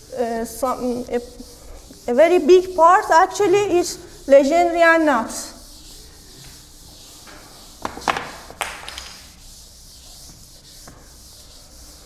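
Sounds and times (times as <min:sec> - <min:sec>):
eraser rubbing chalkboard: 0:00.0 - 0:12.0
eraser strokes knocking chalkboard: 0:00.3 - 0:12.0.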